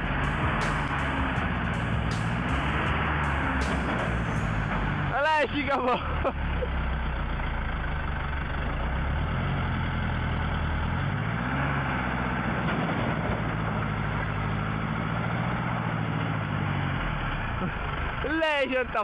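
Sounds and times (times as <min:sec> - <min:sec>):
heavy truck engine revving: 0:00.0 - 0:19.0.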